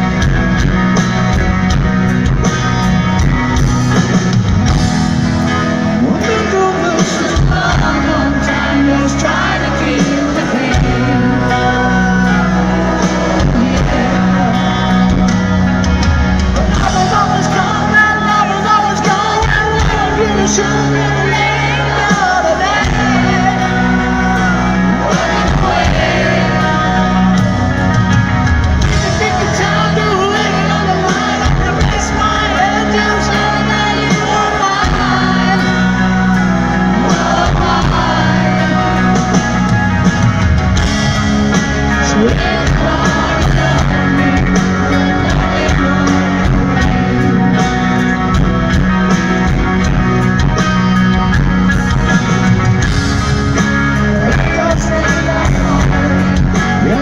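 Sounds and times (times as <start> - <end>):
piano: 0.0 - 57.0
rock band playing live: 0.0 - 57.0
man singing: 5.4 - 40.1, 41.4 - 49.8, 53.5 - 57.0.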